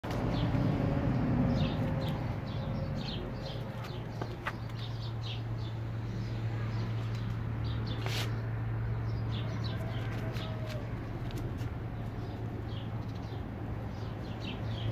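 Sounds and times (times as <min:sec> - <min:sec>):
small birds chirping: 0:00.1 - 0:14.9.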